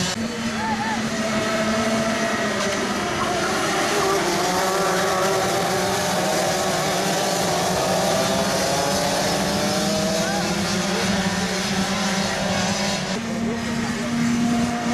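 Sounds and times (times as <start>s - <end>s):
kart engines racing: 0.0s - 14.9s.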